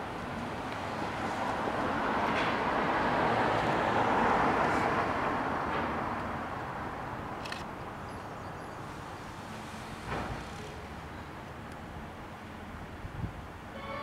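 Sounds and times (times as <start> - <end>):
passing vehicle rumble: 0.0 - 13.3.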